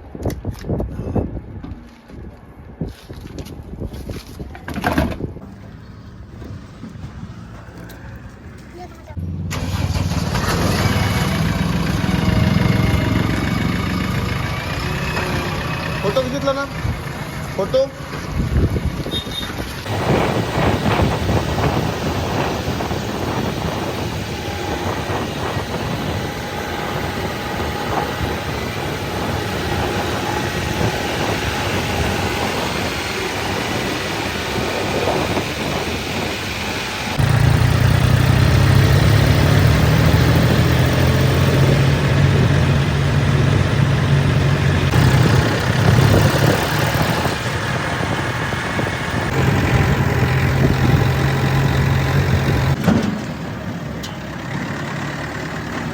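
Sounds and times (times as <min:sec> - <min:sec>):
diesel engines running: 0:05.3 - 0:55.9.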